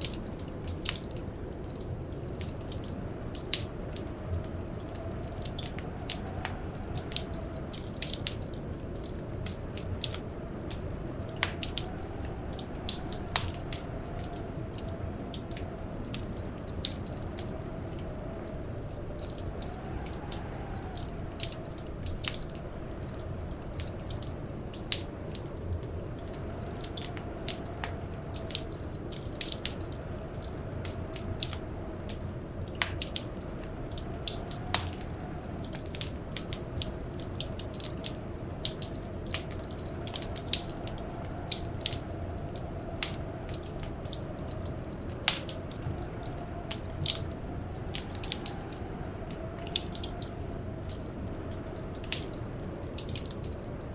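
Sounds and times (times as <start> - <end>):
blizzard wind howling: 0.0 - 53.9
wood fire crackling: 0.0 - 53.9.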